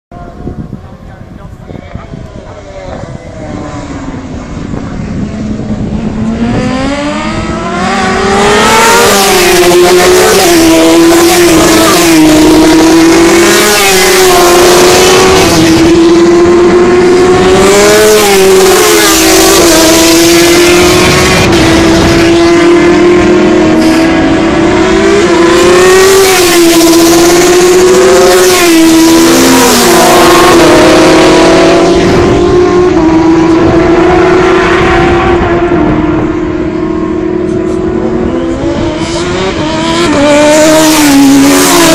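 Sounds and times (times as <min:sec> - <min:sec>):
racing motorcycles passing at speed: 0:00.2 - 0:41.9.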